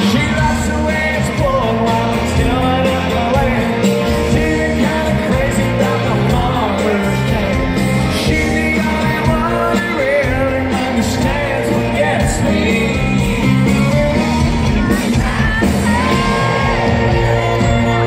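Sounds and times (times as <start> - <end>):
live country band playing: 0.0 - 18.0
male lead vocal: 0.0 - 18.0.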